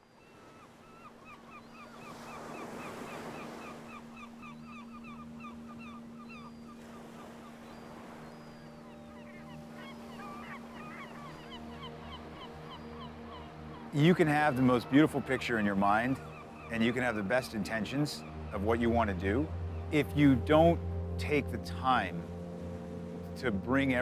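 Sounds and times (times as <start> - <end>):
gulls calling: 0.0 - 24.0.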